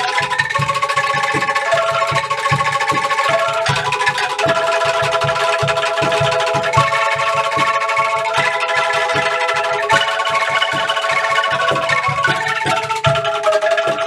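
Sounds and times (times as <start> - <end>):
angklung rattling tremolo melody: 0.0 - 14.0.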